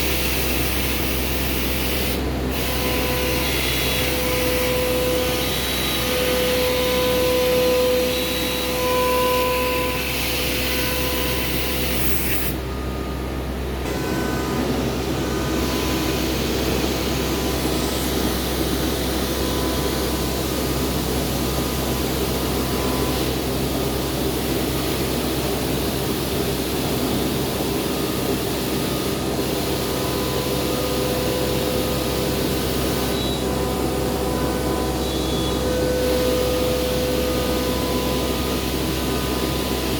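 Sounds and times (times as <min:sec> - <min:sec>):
cnc router milling: 0:00.0 - 0:39.9
machine whine: 0:00.0 - 0:39.9.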